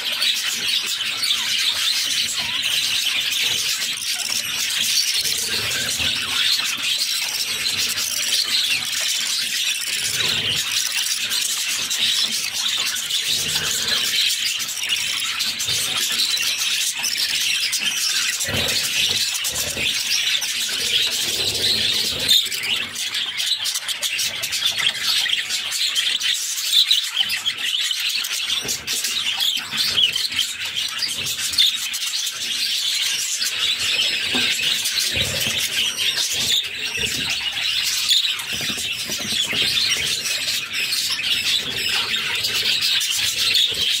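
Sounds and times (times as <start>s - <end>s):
chicks begging calls: 0.0s - 44.0s.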